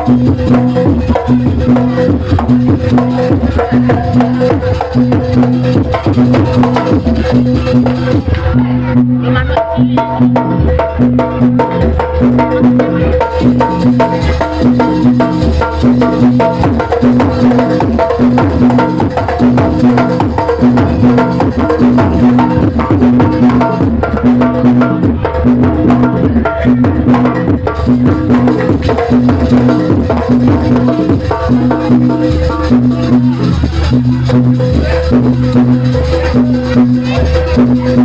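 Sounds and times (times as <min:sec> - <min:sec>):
hand drums beating fast: 0:00.0 - 0:38.0
repeating pitched percussive note: 0:00.0 - 0:38.0.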